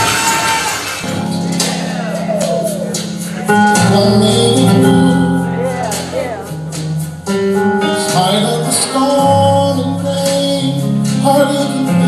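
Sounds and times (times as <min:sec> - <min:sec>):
gospel band music: 0:00.0 - 0:12.0.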